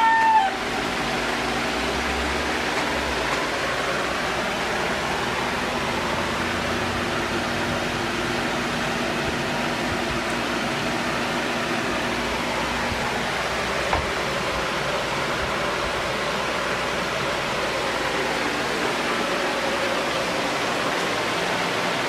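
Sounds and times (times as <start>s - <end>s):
steady rushing noise: 0.7s - 22.0s.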